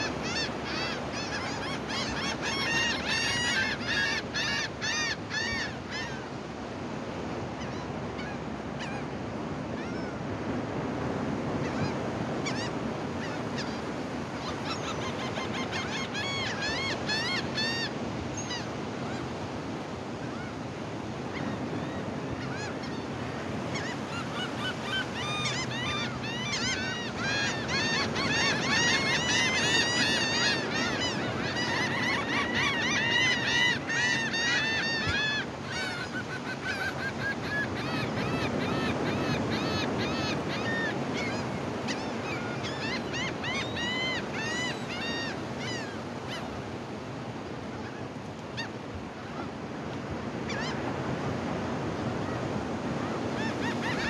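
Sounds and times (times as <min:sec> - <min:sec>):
gulls calling: 0:00.0 - 0:54.0
surf washing: 0:00.0 - 0:54.0.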